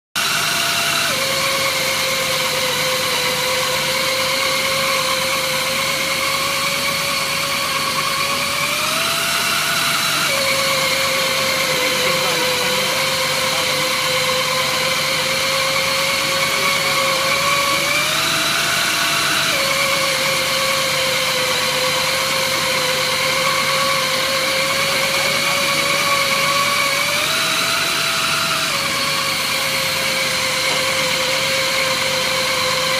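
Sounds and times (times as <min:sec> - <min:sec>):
milling machine whining: 0:00.2 - 0:32.9.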